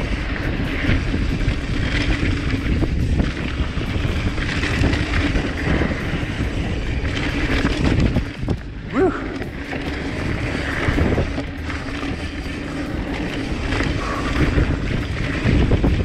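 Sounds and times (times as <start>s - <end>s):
bike clicks and rattles: 0.0s - 16.0s
tyres on dirt: 0.0s - 16.0s
wind on microphone: 0.0s - 16.0s.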